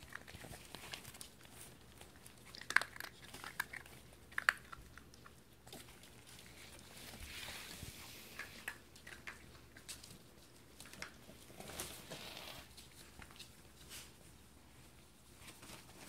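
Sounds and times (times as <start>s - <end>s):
puppy paws clicking on hardwood: 0.0s - 14.1s.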